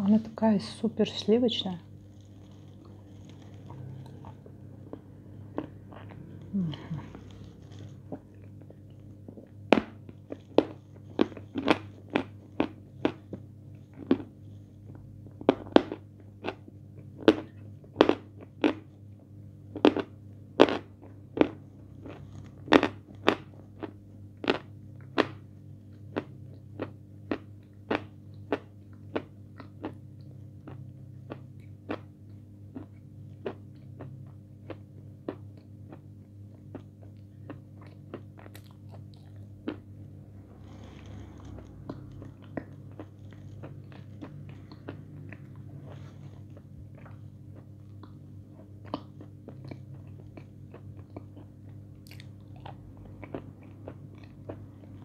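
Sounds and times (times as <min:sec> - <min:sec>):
faint low hum: 0:00.0 - 0:55.0
biscuit chewing: 0:01.7 - 0:55.0.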